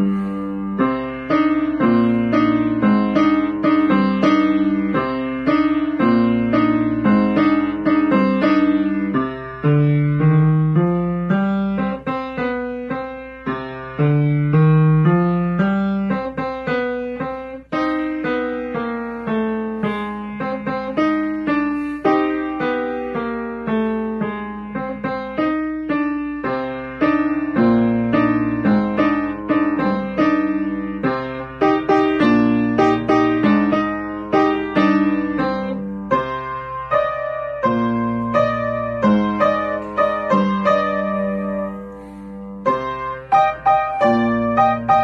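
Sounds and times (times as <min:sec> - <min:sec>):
boogie piano piece: 0:00.0 - 0:45.0.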